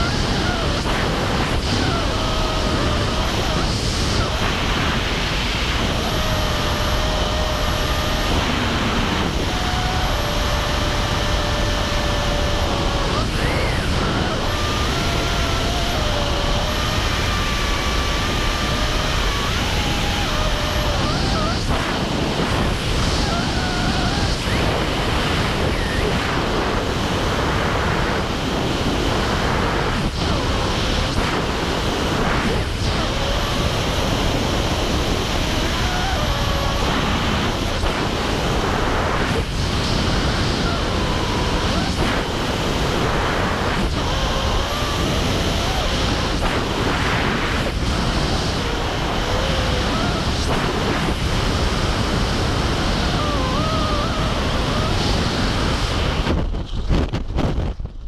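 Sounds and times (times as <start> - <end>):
wind rushing over camera: 0.0 - 58.0.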